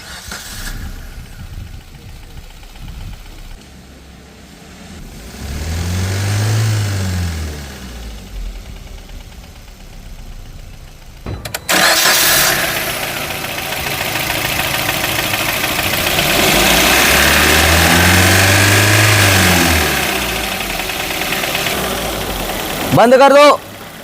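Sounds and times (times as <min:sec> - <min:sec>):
car engine starting and revving: 0:00.0 - 0:24.0.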